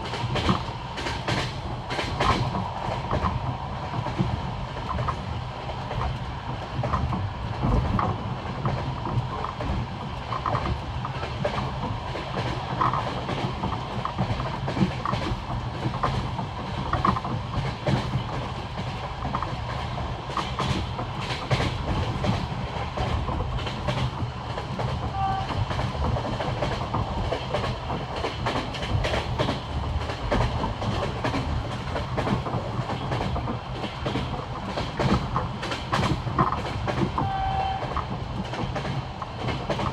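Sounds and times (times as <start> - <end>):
rumble of moving carriages: 0.0 - 39.9
train wheels clattering: 0.0 - 39.9.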